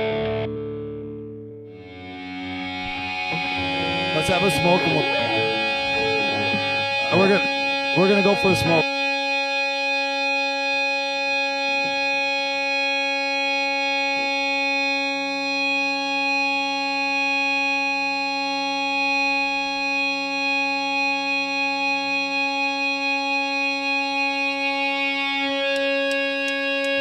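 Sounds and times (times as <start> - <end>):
distorted electric guitar note: 0.0 - 27.0.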